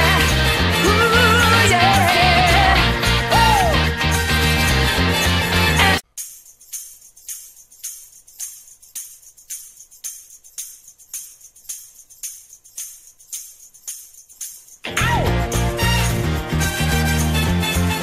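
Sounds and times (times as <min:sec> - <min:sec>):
jingly tambourine hits: 0:00.0 - 0:18.0.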